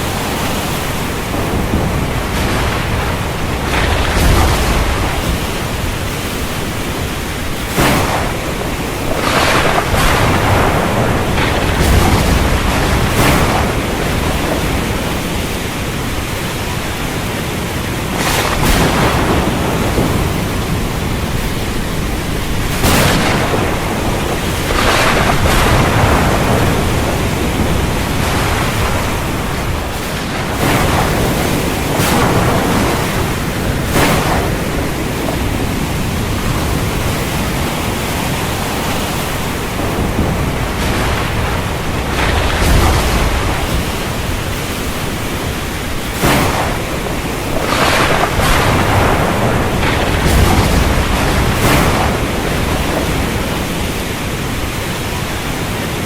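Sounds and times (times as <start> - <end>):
storm wind gusting: 0.0 - 56.0.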